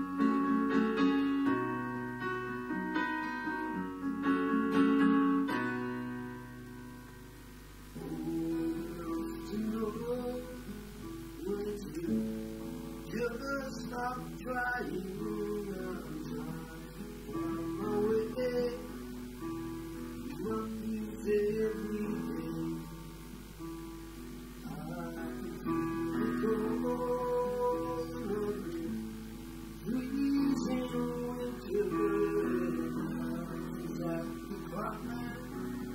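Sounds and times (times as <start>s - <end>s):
acoustic guitar strumming chords: 0.0s - 35.9s
digital piano: 0.0s - 35.9s.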